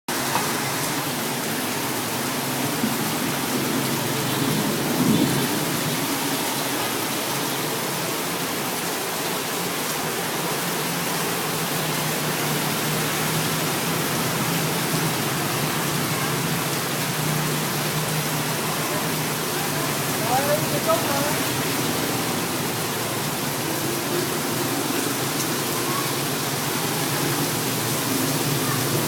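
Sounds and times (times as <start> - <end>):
steady rain falling: 0.1 - 29.0.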